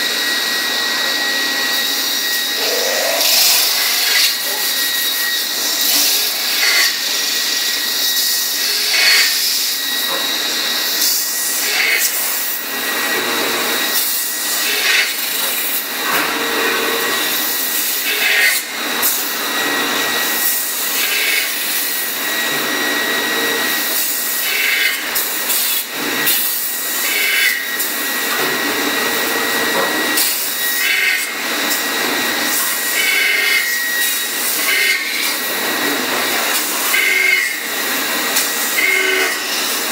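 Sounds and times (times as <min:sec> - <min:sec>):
metal-spinning lathe whining: 0:00.0 - 0:39.9.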